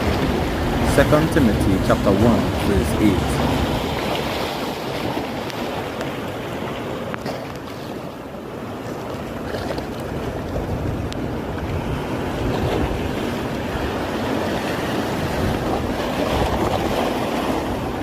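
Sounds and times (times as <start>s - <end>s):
wind buffeting microphone: 0.0s - 7.3s, 10.0s - 18.0s
ocean surf washing in: 0.0s - 8.6s, 10.2s - 18.0s.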